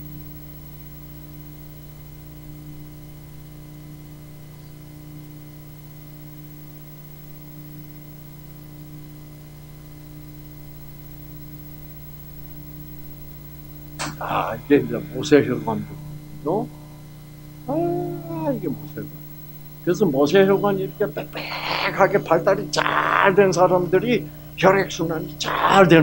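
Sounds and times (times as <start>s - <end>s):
low electrical hum with hiss: 0.0s - 26.0s.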